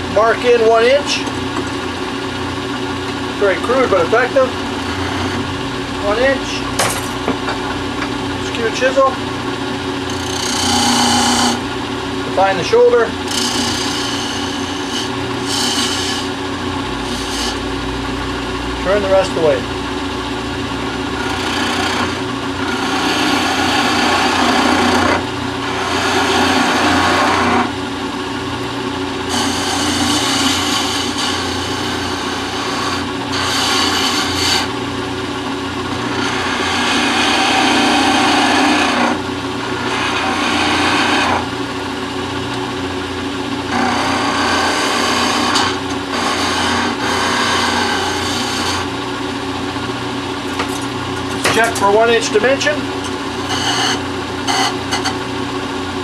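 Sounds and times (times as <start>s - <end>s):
electric motor humming: 0.0s - 56.0s
lathe tool scraping wood: 3.3s - 19.8s, 20.5s - 27.8s, 29.2s - 34.8s, 35.8s - 41.6s, 43.6s - 49.3s, 50.8s - 55.3s.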